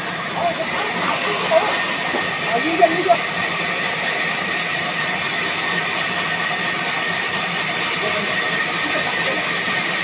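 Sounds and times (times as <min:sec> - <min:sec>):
band saw running: 0:00.0 - 0:10.0.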